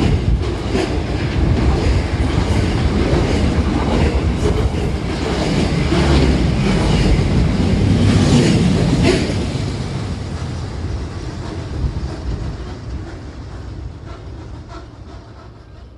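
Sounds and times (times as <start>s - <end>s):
freight train rumbling past: 0.0s - 15.9s
wheels clicking over rail joints: 0.0s - 15.9s.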